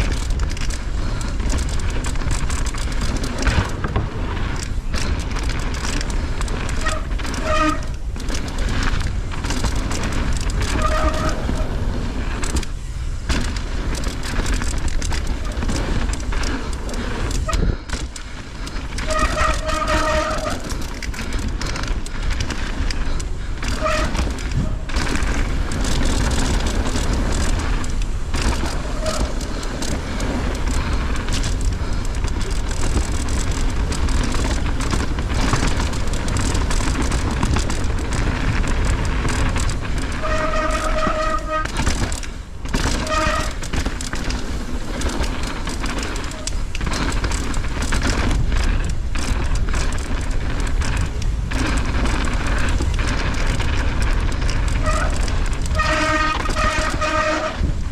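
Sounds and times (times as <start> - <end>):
bike rattling knocks: 0.0 - 57.9
tyres rumbling over dirt: 0.0 - 57.9
wind rushing over microphone: 0.0 - 57.9.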